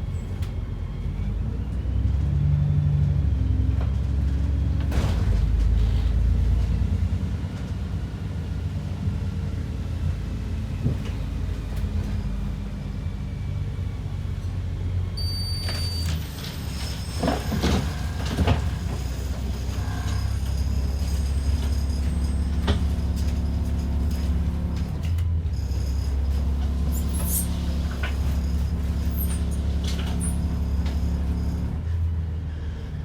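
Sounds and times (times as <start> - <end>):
bus engine rumble: 0.0 - 33.0.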